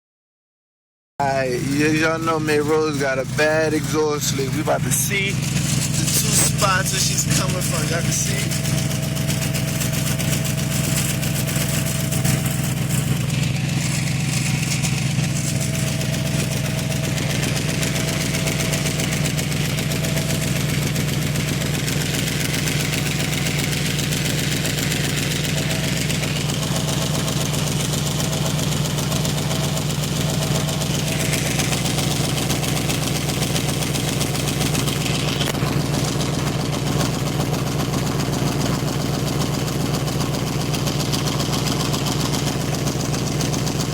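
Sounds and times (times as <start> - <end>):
car engine idling: 1.2 - 43.9.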